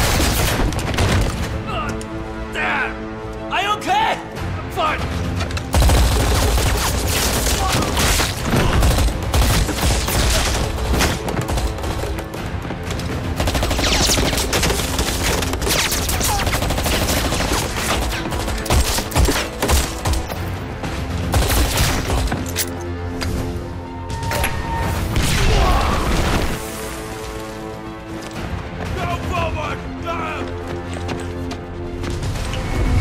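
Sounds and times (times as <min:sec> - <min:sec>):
dramatic film score music: 0:00.0 - 0:33.0.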